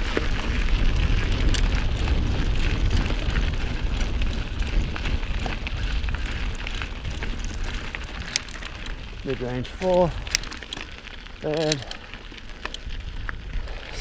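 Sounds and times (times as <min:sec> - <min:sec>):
bike and stones rattling: 0:00.0 - 0:14.0
bike tyre and wind rumble: 0:00.0 - 0:14.0.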